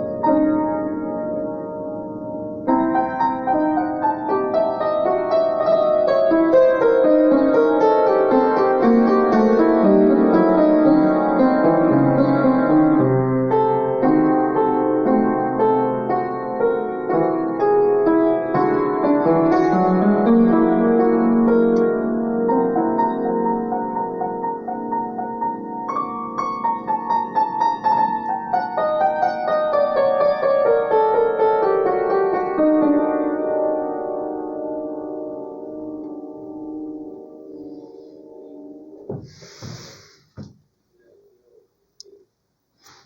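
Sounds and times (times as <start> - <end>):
impressionistic piano improvisation: 0.0 - 39.4.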